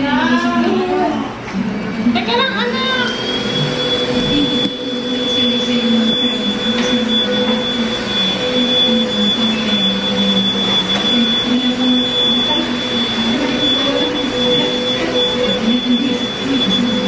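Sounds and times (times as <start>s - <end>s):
vacuum cleaner high whine: 0.0s - 17.0s.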